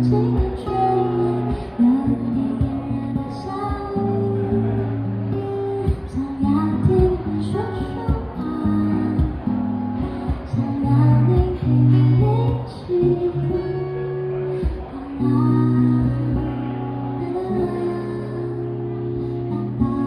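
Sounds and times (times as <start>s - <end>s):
guitar strumming and picking: 0.0s - 20.0s.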